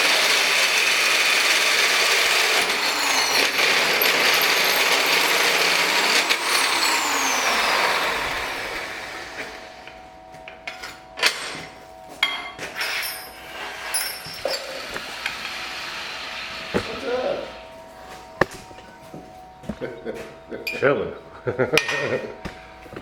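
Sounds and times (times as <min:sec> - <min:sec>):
power tool whining: 0:00.0 - 0:11.8, 0:12.6 - 0:23.0.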